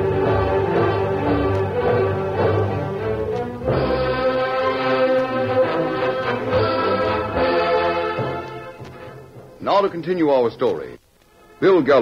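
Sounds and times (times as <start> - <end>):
theme music held chords: 0.0 - 9.6.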